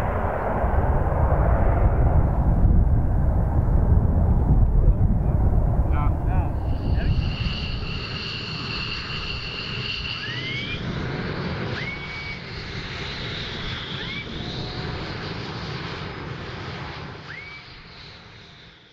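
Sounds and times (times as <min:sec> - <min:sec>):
rising whistles: 0:00.0 - 0:15.5, 0:17.2 - 0:18.8
jet engine rumble: 0:00.0 - 0:18.6
turbine whine: 0:00.0 - 0:18.9.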